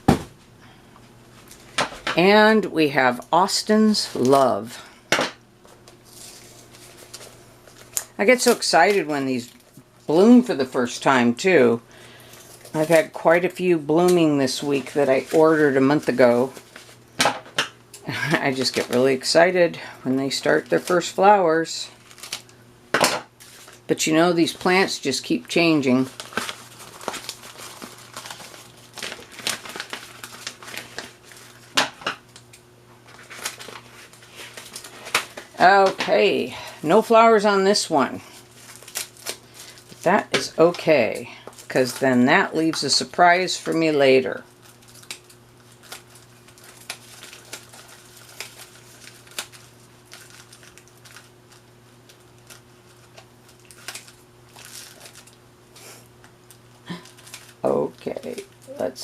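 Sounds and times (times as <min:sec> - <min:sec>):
steady low hum: 0:00.0 - 0:59.0
packing material crinkling: 0:05.6 - 0:10.2, 0:11.9 - 0:17.1, 0:18.1 - 0:22.6, 0:23.4 - 0:59.0.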